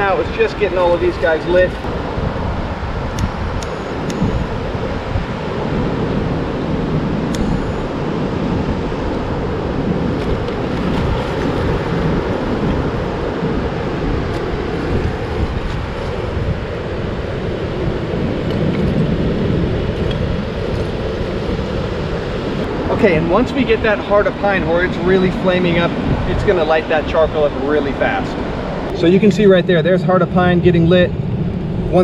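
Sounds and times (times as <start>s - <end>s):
surf on a beach: 0.0s - 32.0s
wind buffeting microphone: 0.0s - 32.0s.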